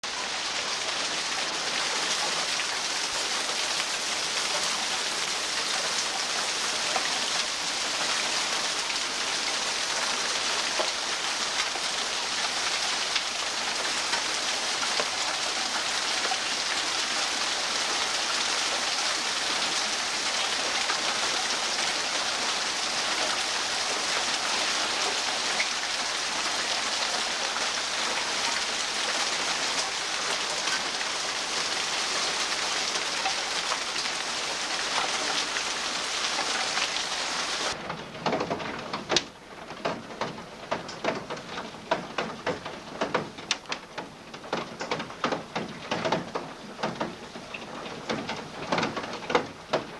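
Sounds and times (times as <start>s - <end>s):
raindrops tapping surfaces: 0.0s - 49.9s
steady rain hiss: 0.0s - 49.9s.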